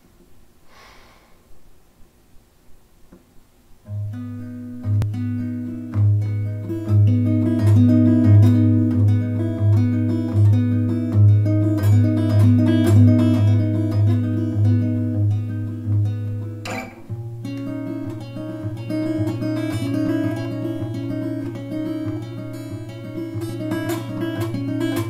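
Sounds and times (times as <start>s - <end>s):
fingerpicked acoustic guitar: 3.8s - 25.0s.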